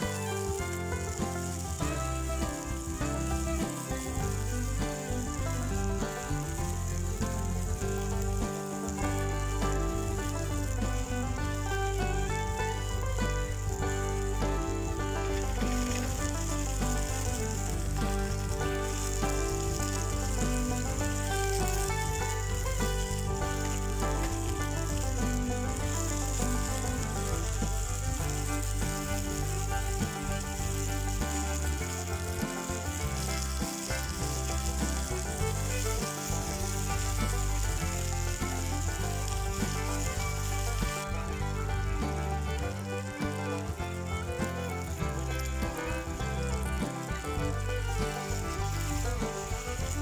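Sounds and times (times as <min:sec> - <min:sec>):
background music of held notes: 0:00.0 - 0:50.0
food sizzling in a skillet: 0:00.0 - 0:50.0.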